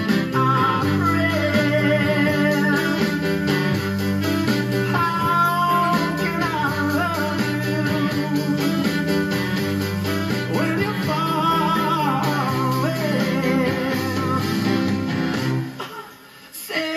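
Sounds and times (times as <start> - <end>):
upright bass: 0.0 - 15.8
electric guitar: 0.0 - 16.4
drums: 0.0 - 16.9.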